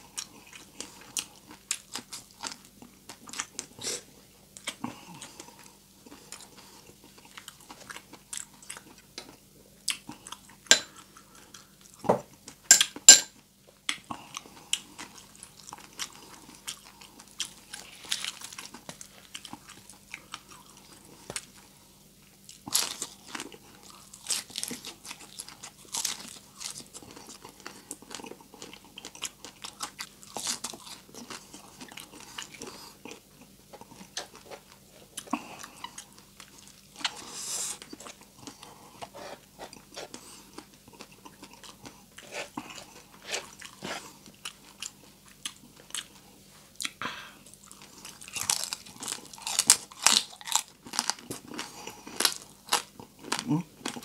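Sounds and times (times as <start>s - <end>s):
person chewing: 0.0s - 13.2s, 13.8s - 54.0s.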